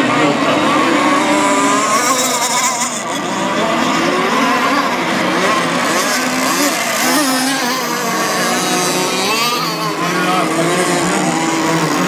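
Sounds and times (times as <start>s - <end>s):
racing model boat engines whining: 0.0s - 12.0s.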